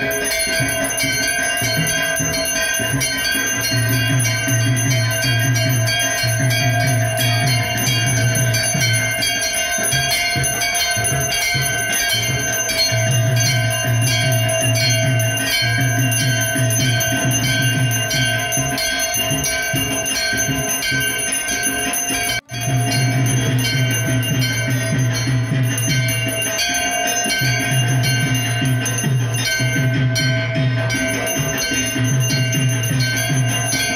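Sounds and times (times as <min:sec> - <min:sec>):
brass bell ringing: 0:00.0 - 0:33.9.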